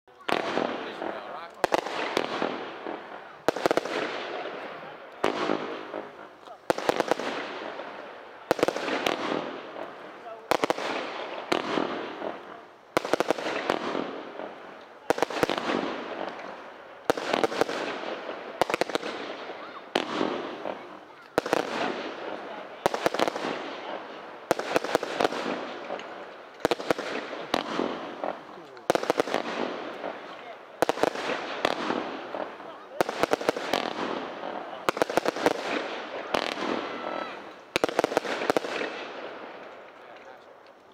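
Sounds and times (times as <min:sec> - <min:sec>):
firework bangs: 0:00.1 - 0:40.9
firework crackling: 0:00.1 - 0:40.9.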